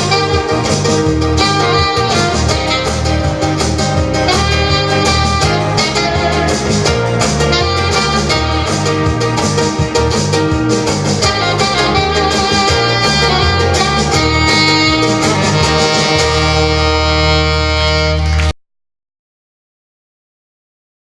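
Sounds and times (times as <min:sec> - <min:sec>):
jazzy instrumental music: 0:00.0 - 0:18.6.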